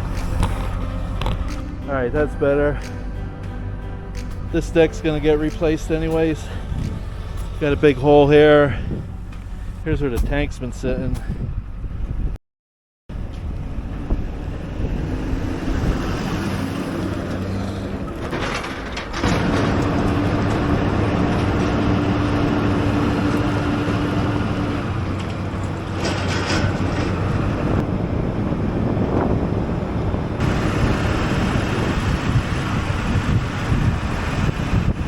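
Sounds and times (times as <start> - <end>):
road noise: 0.0 - 12.4, 13.1 - 35.0
truck engine drone: 0.0 - 12.4, 13.1 - 35.0.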